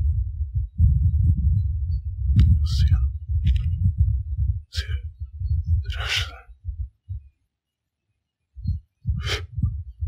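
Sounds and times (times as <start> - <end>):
low throbbing rumble: 0.0 - 7.4, 8.6 - 10.0.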